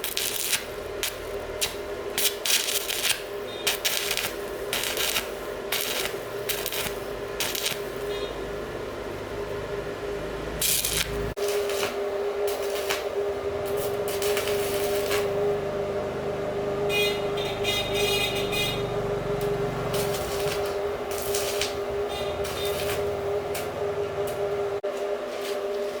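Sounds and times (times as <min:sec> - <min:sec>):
machine motor humming: 0:03.4 - 0:25.2.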